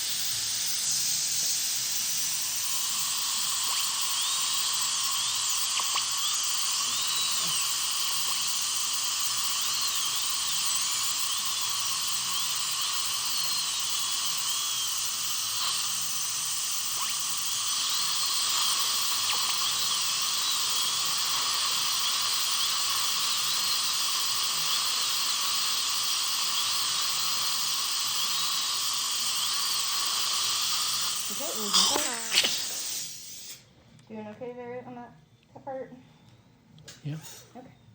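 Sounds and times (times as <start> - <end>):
dental drill whine: 0.0 - 33.8.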